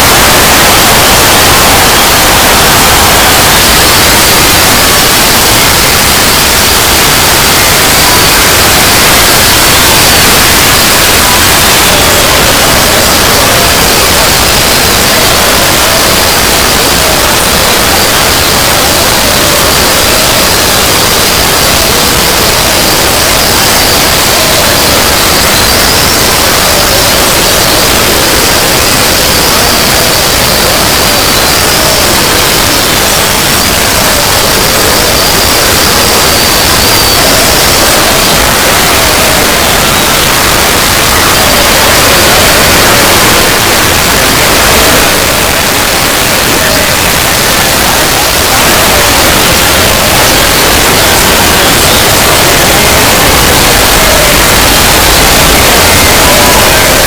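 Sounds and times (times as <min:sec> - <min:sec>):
loud static noise: 0:00.0 - 0:57.0.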